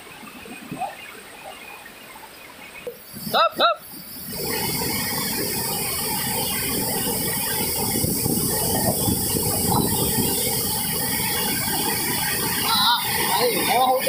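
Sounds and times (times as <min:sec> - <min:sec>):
water rushing over a weir: 0:00.0 - 0:14.0.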